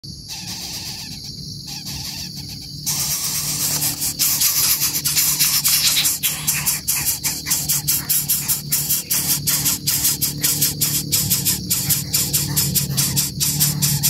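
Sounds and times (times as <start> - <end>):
high-pitched insect drone: 0.1 - 14.0
pulsing rustling hiss: 1.7 - 14.0.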